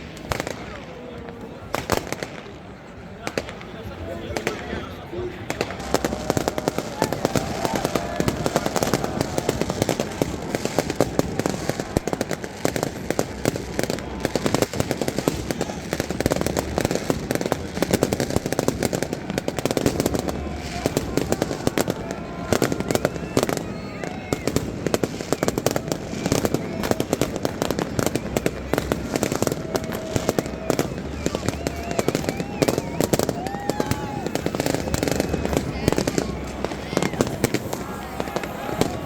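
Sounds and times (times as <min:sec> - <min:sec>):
faint voices: 0:00.0 - 0:39.0
fireworks cracking and banging: 0:00.0 - 0:39.0.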